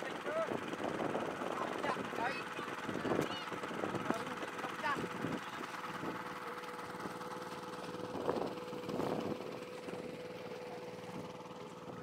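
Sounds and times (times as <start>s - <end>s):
water pump engine humming: 0.0s - 12.0s.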